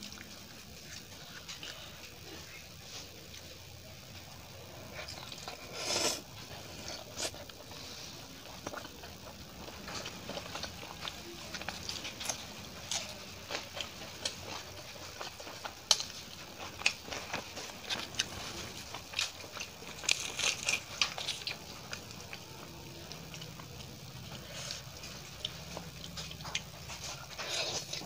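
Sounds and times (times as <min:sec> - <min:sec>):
person chewing: 0:00.0 - 0:03.6, 0:04.3 - 0:28.0.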